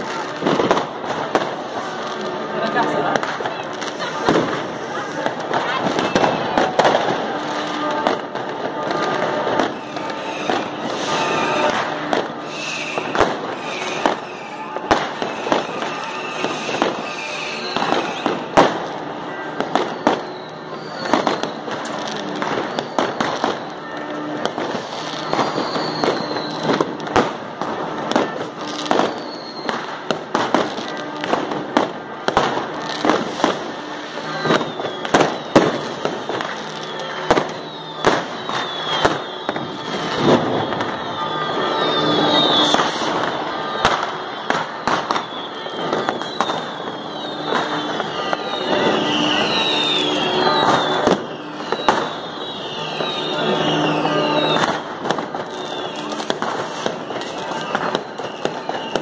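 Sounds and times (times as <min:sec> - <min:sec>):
fireworks and firecrackers banging: 0:00.0 - 0:59.0
falling firework whistles: 0:03.9 - 0:59.0.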